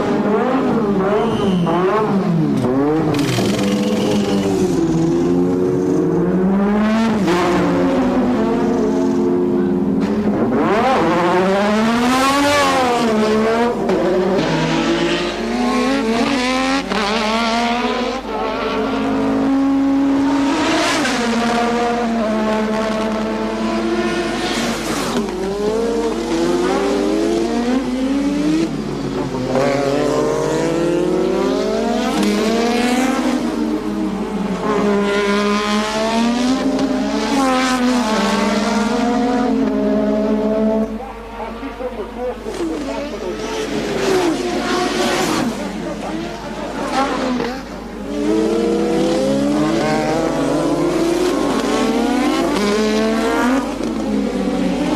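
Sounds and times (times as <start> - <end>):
racing car engines revving: 0.0 - 54.9.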